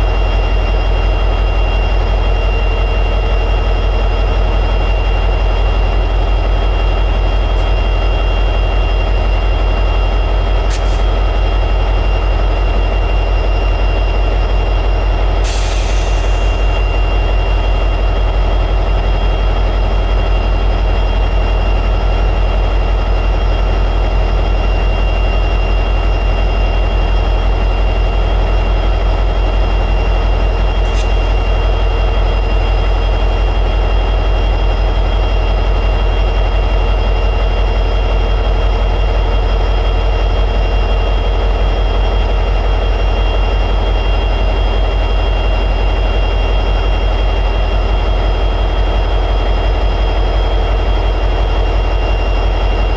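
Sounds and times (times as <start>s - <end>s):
steady high whine: 0.0s - 52.9s.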